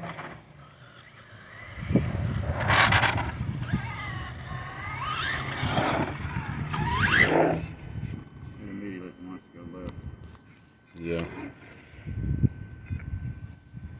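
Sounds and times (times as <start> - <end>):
electric motor whining: 0.0 - 13.9.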